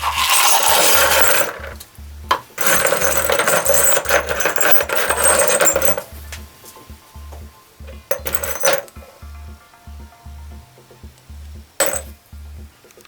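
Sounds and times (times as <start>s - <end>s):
background music with beat: 0.0s - 13.0s.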